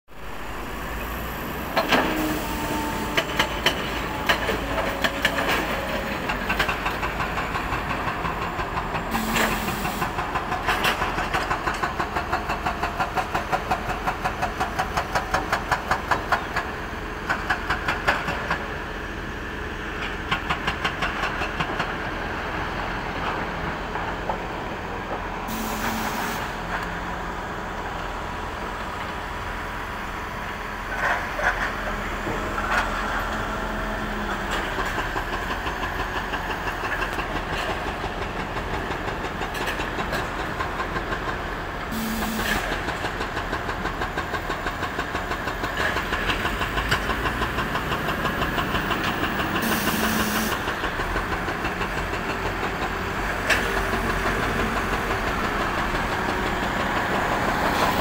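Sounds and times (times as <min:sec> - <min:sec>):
heavy diesel machinery rumbling: 0:00.1 - 0:58.0.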